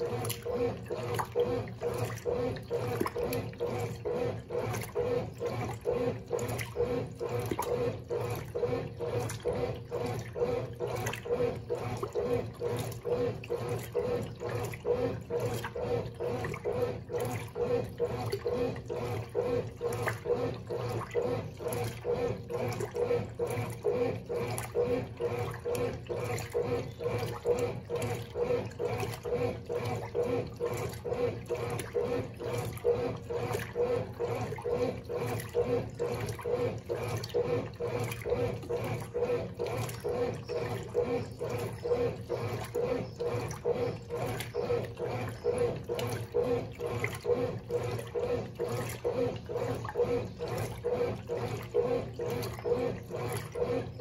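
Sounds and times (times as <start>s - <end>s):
washing machine motor hum: 0.0s - 54.0s
washing machine sloshing clothes: 0.0s - 54.0s.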